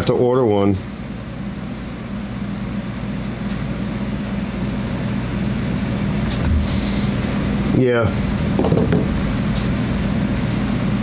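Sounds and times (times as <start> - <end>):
space heater humming: 0.0 - 11.0.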